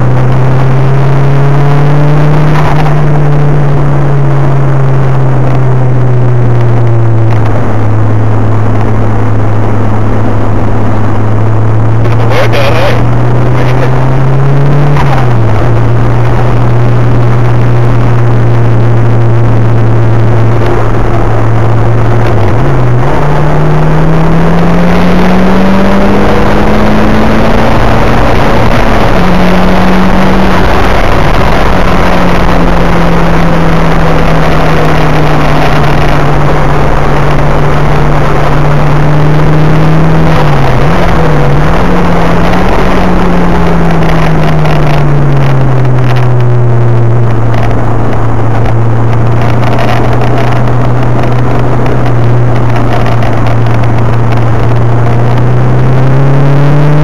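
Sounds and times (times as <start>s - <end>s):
car engine from inside cabin: 0.0s - 57.0s.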